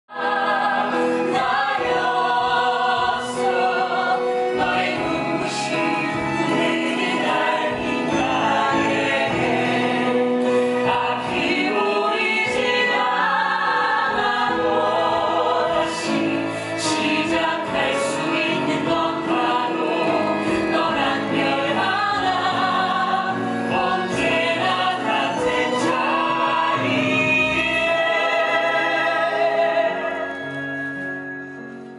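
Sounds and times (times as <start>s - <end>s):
instrumental accompaniment: 0.1s - 31.9s.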